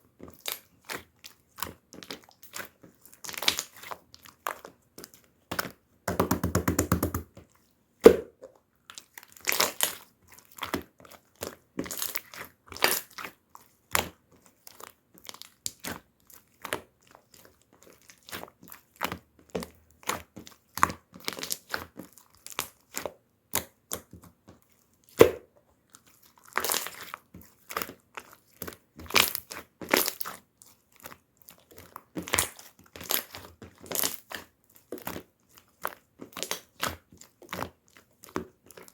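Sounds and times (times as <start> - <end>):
slime squishing: 0.2 - 5.8, 7.4 - 38.9.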